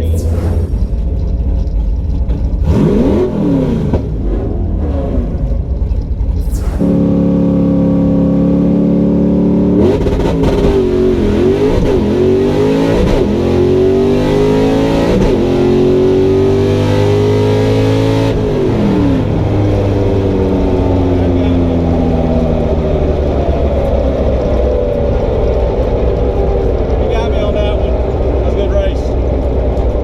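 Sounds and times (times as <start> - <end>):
drag car engine revving: 0.0 - 30.0.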